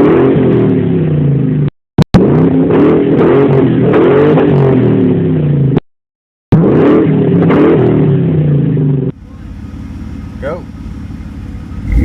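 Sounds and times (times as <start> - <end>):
car engine revving: 0.0 - 5.8, 6.5 - 12.0
car engine running steadily: 0.0 - 5.8, 6.5 - 12.0.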